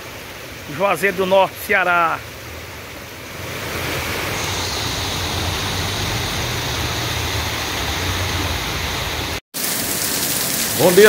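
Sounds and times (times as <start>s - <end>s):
heavy rain: 0.0s - 11.0s
runoff water flowing: 0.0s - 11.0s.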